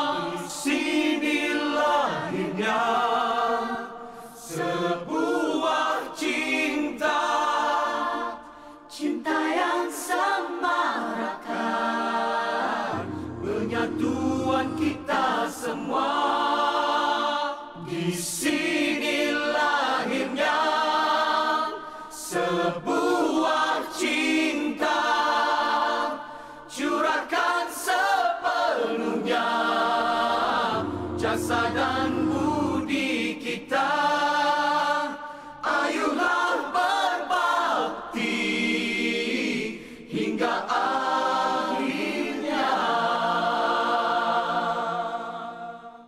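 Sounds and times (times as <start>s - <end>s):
group of voices singing: 0.0s - 46.0s.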